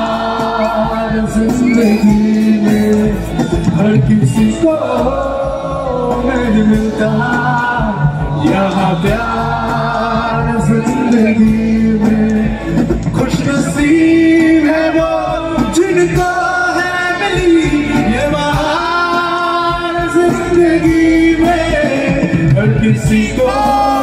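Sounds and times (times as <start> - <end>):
band with bass keyboard and drums: 0.0 - 24.0
man singing a ballad: 0.0 - 24.0.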